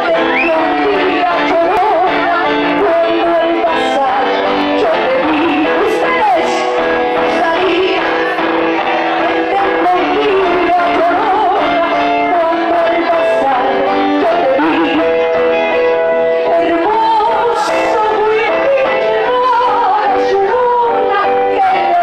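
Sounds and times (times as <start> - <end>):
live band playing held chords: 0.0 - 22.0
person singing melody: 0.0 - 22.0.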